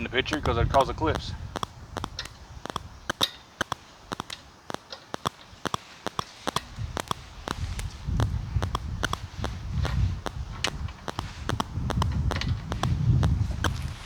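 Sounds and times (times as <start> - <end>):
tools clicking and tapping: 1.5 - 14.0.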